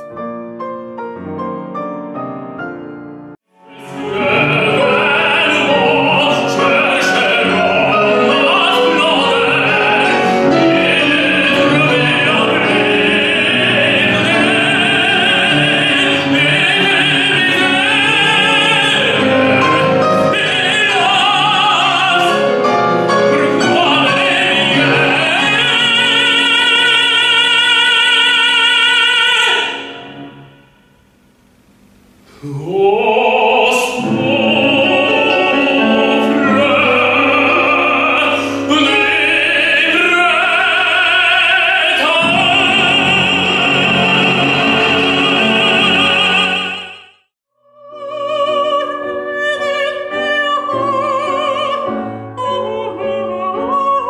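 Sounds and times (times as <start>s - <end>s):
grand piano accompaniment: 0.0s - 30.6s, 32.4s - 47.0s, 48.1s - 54.0s
soprano singing: 3.5s - 30.6s, 32.4s - 54.0s
male opera singer singing: 3.6s - 30.6s, 32.3s - 47.2s, 47.8s - 54.0s.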